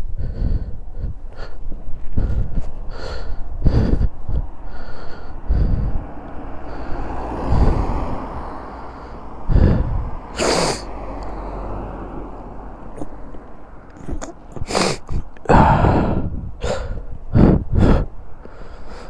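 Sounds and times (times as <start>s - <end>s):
wind hitting microphone: 0.0s - 19.0s.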